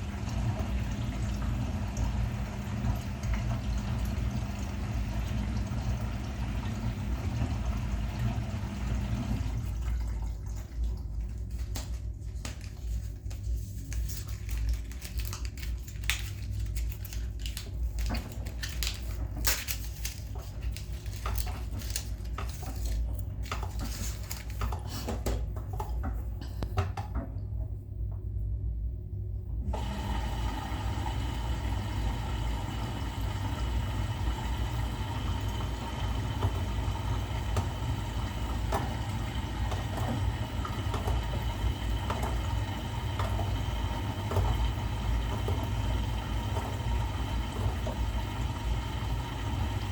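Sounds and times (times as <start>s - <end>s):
washing machine running: 0.0s - 49.9s.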